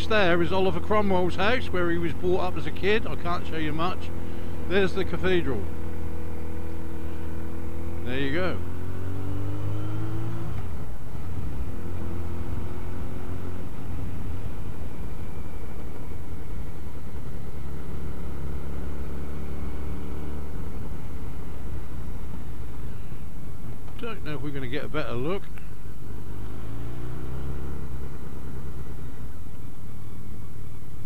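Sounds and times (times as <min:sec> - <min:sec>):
motorcycle engine: 0:00.0 - 0:31.0
road and wind noise: 0:00.0 - 0:31.0.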